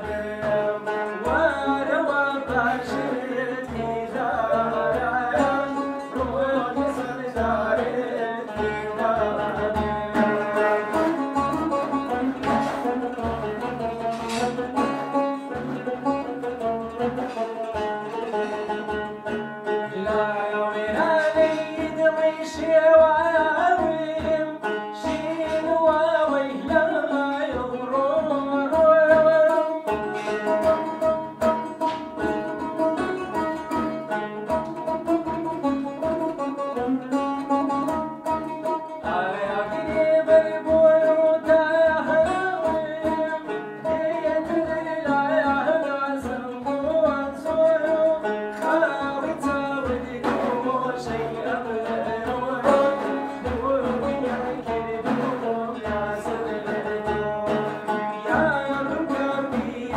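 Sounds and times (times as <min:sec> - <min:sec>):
man singing: 0:00.0 - 0:18.5, 0:19.6 - 0:31.7, 0:34.7 - 0:59.9
plucked long-necked lute: 0:00.0 - 0:59.9.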